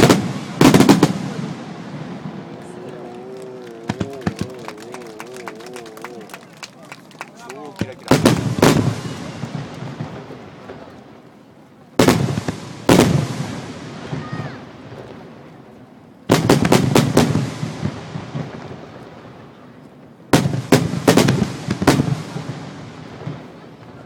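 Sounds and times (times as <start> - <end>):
fireworks bursting overhead: 0.0 - 24.0.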